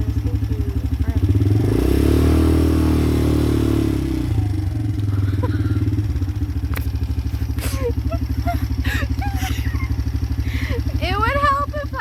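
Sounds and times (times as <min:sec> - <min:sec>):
atv engine idling and revving: 0:00.0 - 0:12.0.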